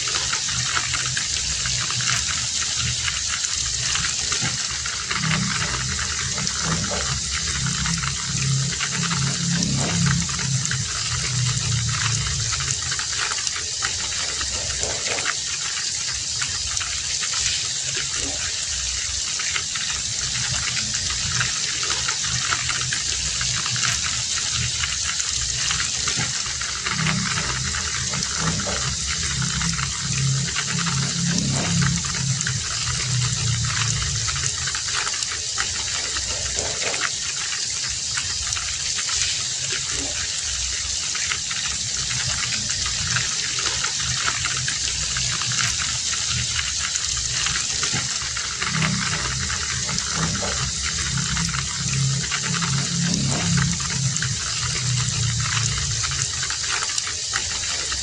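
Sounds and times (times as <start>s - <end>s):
heavy rain falling: 0.0s - 58.0s
low uneven rumble: 0.0s - 58.0s.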